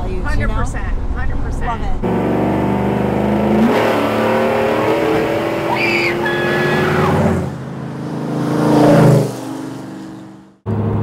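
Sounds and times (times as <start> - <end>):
truck engine accelerating: 0.9 - 11.0.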